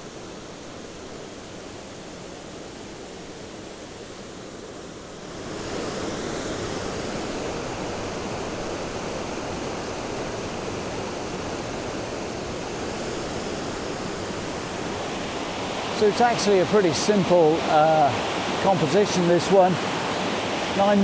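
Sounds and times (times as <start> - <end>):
rocky stream and waterfall rushing: 0.0 - 21.0.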